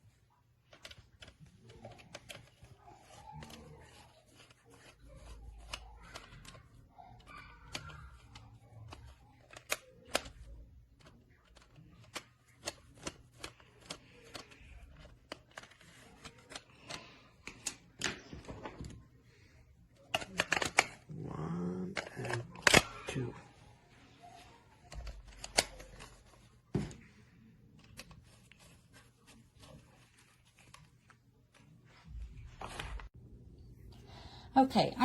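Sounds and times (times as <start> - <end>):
soft handling rustle: 0.0 - 6.9, 7.8 - 21.1, 21.9 - 33.2.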